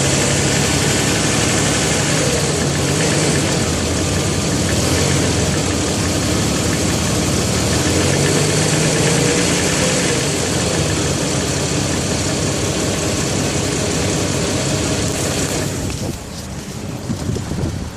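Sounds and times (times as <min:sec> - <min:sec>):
car engine idling with knock: 0:00.0 - 0:17.9.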